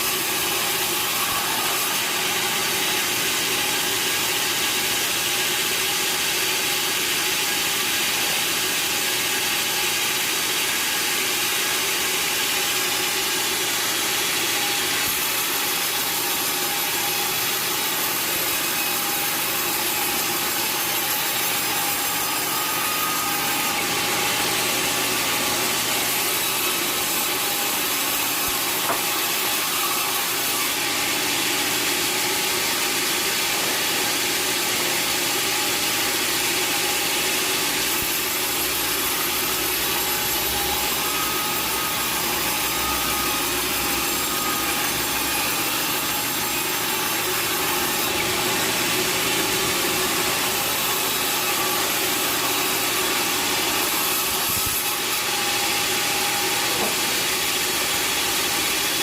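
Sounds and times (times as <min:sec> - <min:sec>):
saw cutting through log: 0:00.0 - 0:59.0.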